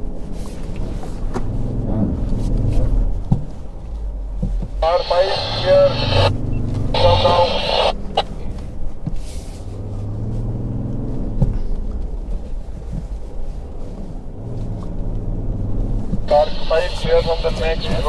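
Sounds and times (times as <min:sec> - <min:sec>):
diesel engine from inside cabin: 0:00.0 - 0:18.0.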